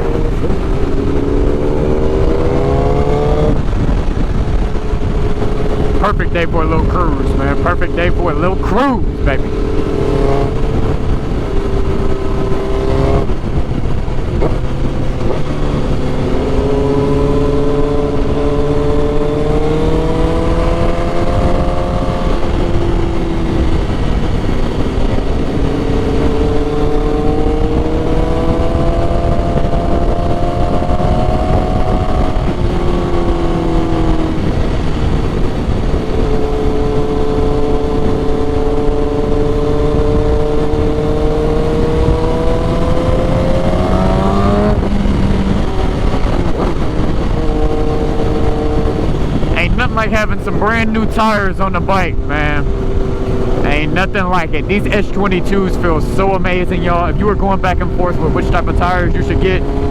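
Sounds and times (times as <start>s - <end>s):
motorcycle engine changing gears: 0.0s - 59.9s
wind rush: 0.0s - 59.9s.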